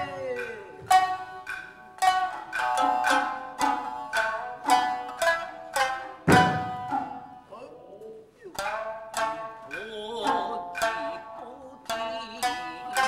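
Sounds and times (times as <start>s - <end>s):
person singing wavering notes: 0.0s - 4.8s, 6.8s - 13.0s
shamisen plucked notes: 0.0s - 13.0s.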